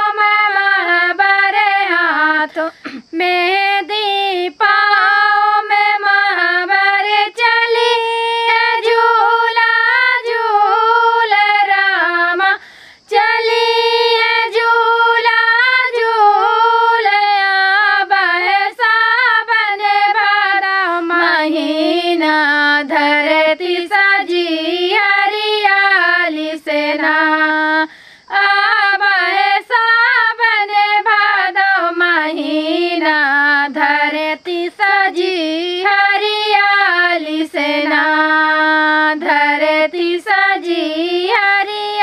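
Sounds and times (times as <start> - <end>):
women singing unaccompanied: 0.0 - 42.0.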